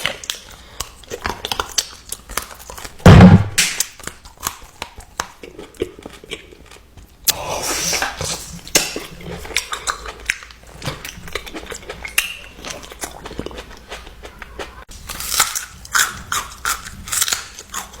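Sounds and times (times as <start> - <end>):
chewing and biting: 0.0 - 3.0, 3.8 - 7.4, 8.1 - 18.0.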